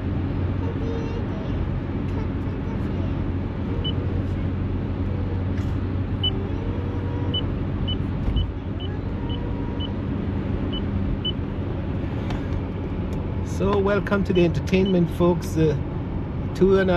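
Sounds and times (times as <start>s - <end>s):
car engine and road hum: 0.0s - 16.9s.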